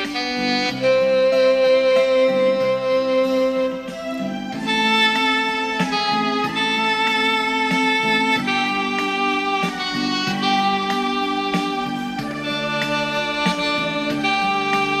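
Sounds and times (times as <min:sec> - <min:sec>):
digital wind instrument melody: 0:00.0 - 0:15.0
plucked guitar-like backing track: 0:00.0 - 0:15.0.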